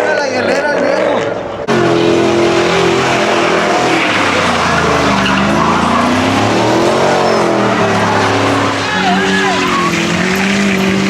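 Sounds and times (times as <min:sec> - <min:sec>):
spinning tyres squealing: 0:00.0 - 0:11.0
truck engine revving: 0:00.8 - 0:11.0.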